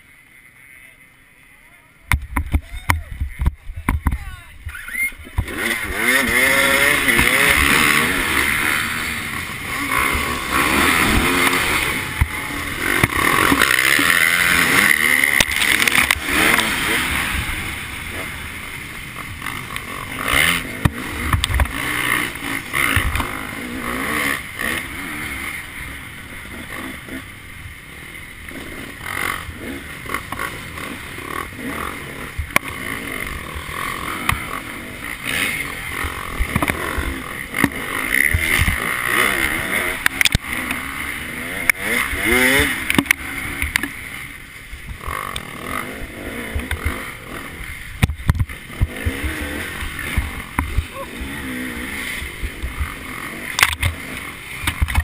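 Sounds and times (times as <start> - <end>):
dirt bike engines revving: 0.0 - 55.0
dirt bike engine running: 2.0 - 55.0.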